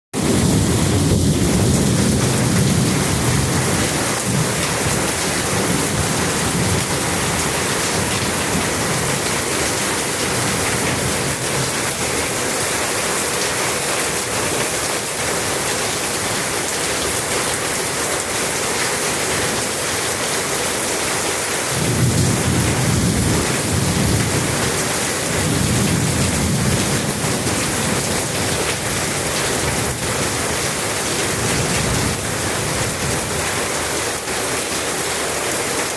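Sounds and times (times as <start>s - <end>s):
heavy rain: 0.2s - 35.9s.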